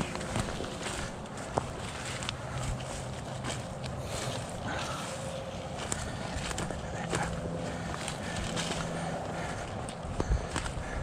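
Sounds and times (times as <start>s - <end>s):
footsteps through dry plants: 0.0s - 11.0s.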